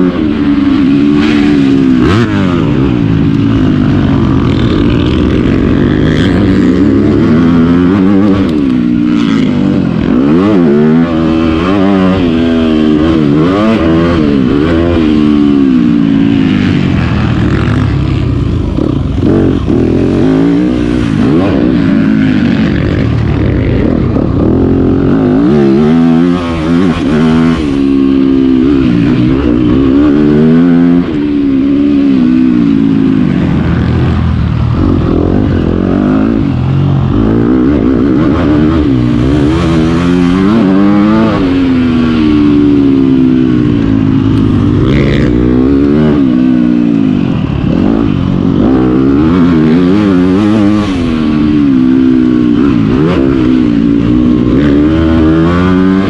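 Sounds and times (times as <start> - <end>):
motocross engine revving: 0.0 - 56.0.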